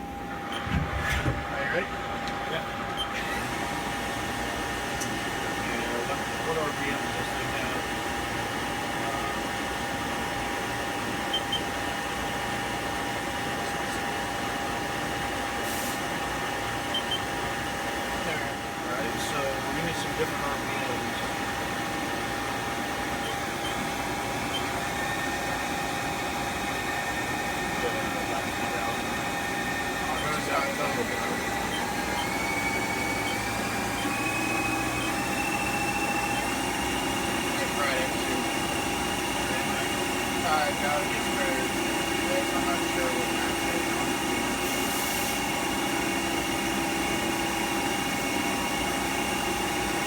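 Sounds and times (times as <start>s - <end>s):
lathe spindle hum and whine: 0.0s - 50.0s.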